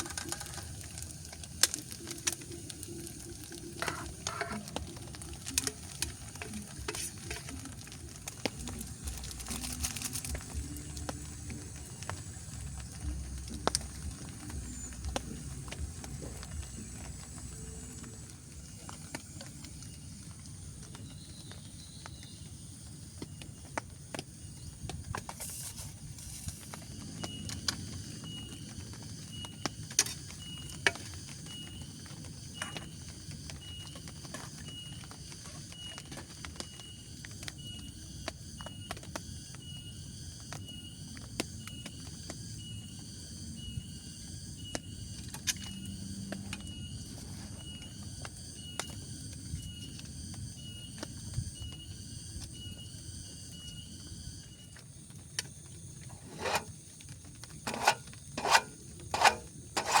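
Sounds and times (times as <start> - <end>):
insects chirping: 0.0 - 60.0.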